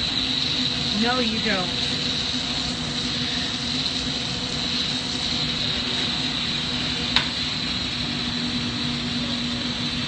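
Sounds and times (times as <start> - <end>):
torch flame hissing: 0.0 - 10.0
ventilation fans droning: 0.0 - 10.0.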